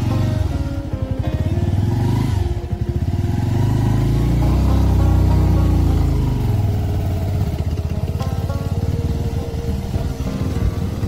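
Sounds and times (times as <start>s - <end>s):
motorcycle engine pulling away: 0.0s - 11.0s.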